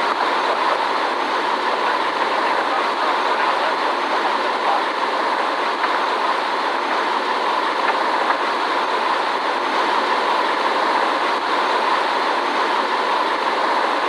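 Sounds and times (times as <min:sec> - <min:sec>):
jet engine cabin roar: 0:00.0 - 0:14.0.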